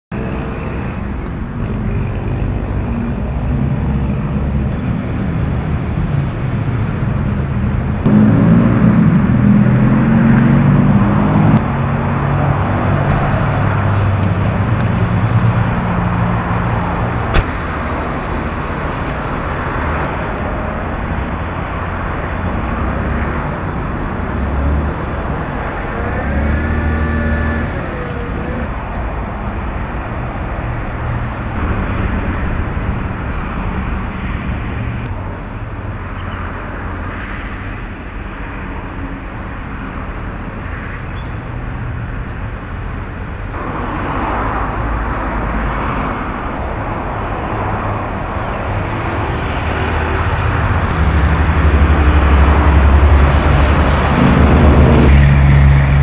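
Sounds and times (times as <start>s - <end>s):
vehicles passing: 0.1s - 56.0s
car engines running: 0.2s - 40.4s, 42.8s - 56.0s.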